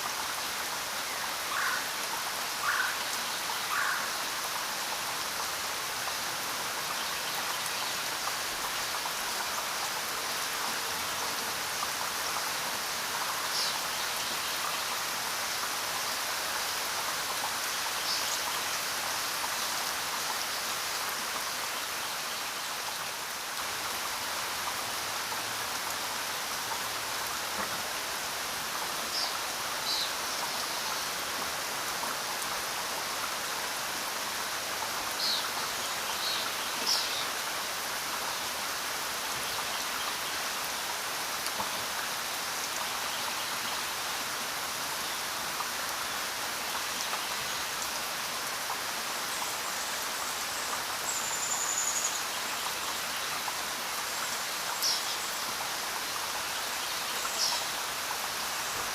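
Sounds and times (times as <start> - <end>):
rain on ground and foliage: 0.0 - 58.9.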